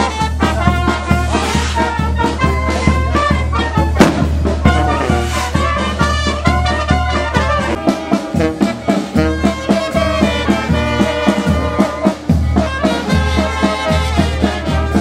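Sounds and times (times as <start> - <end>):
brass band music: 0.0 - 15.0.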